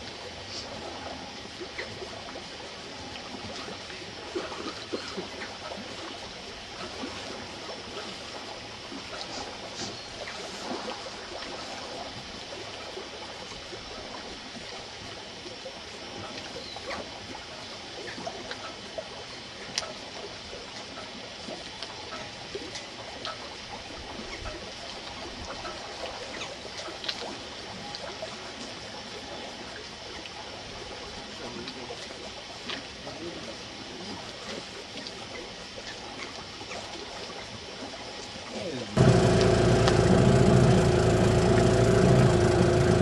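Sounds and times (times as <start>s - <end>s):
small waves lapping against hull: 0.0s - 43.0s.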